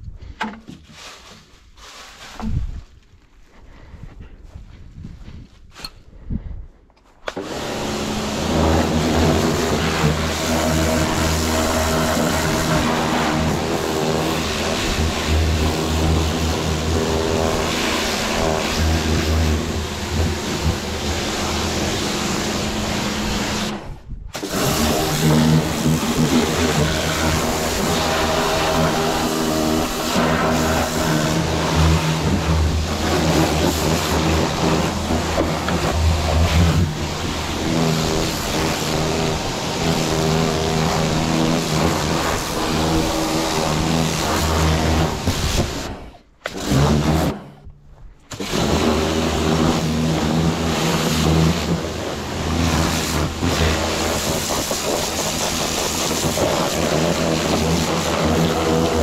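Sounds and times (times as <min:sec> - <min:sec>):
engine running: 0:07.3 - 0:59.0.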